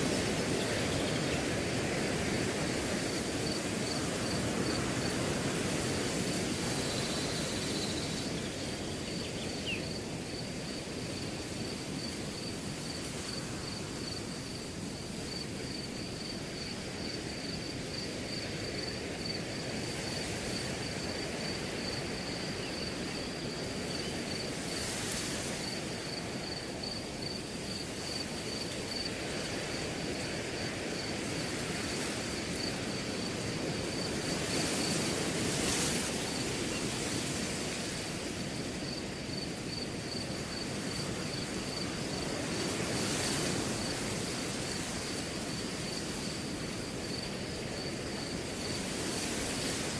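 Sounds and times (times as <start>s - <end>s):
cricket chirping: 0.0s - 49.9s
wind rushing through grass: 0.0s - 49.9s.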